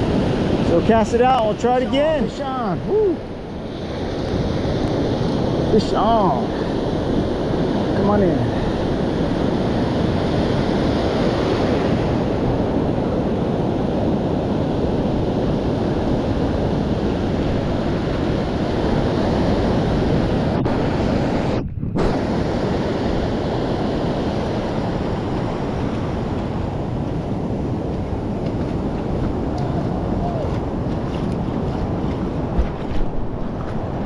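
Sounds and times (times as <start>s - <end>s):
surf breaking over shallows: 0.0s - 34.0s
wind buffeting microphone: 0.0s - 34.0s.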